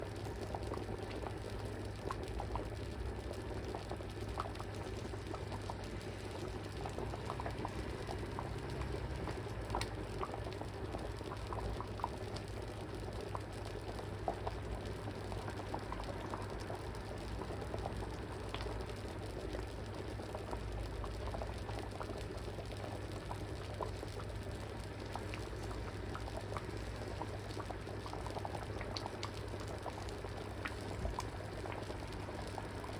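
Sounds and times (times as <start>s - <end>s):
curry bubbling in pot: 0.0s - 32.9s.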